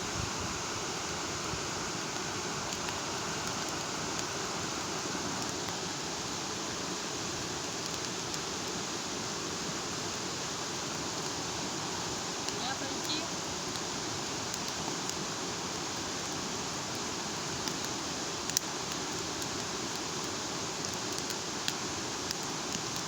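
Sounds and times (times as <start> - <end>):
faint fire crackles: 0.0 - 23.0
hissing bonfire flames: 0.0 - 23.0.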